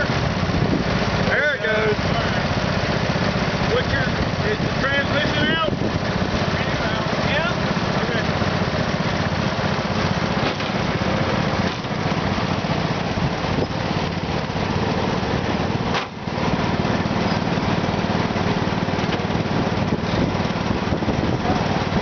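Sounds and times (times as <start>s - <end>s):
small tractor engine running: 0.0s - 22.0s.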